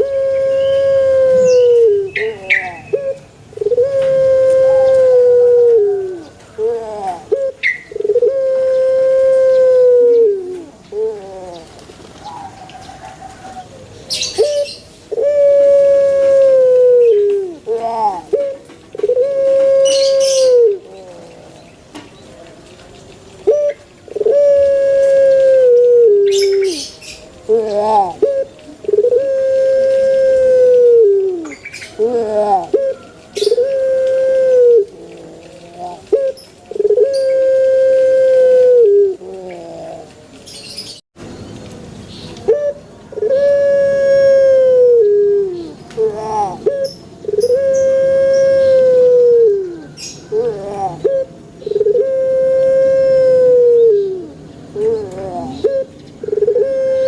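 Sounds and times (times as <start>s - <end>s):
dove cooing: 0.0s - 22.0s, 23.3s - 41.0s, 42.4s - 57.0s.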